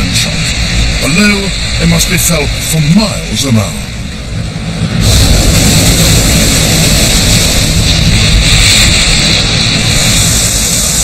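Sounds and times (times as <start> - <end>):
spray and churning water: 0.0 - 11.0.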